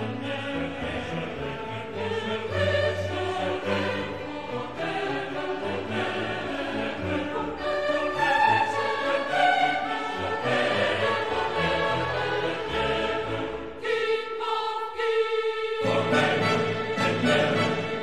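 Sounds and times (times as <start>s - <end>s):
choir singing with orchestra: 0.0s - 18.0s.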